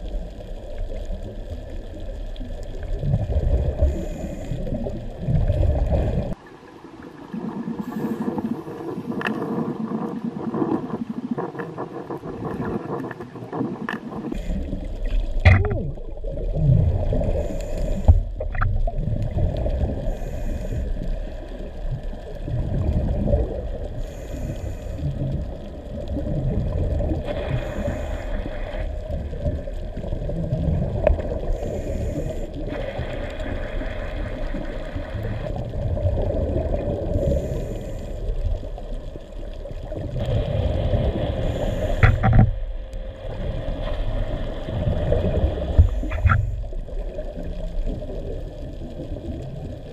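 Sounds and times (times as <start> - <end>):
bubbling and gurgling: 0.0 - 49.9
underwater rumble of moving water: 0.0 - 49.9.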